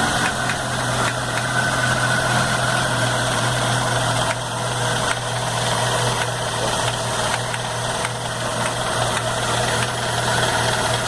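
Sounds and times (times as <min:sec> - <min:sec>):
car engine idling with rattle: 0:00.0 - 0:11.0.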